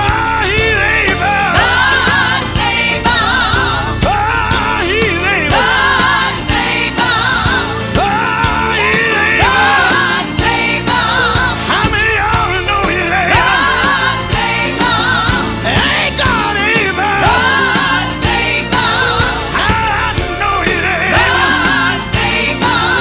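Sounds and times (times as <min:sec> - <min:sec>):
band with steady drum beat: 0:00.0 - 0:23.0
gospel voices singing: 0:00.0 - 0:23.0.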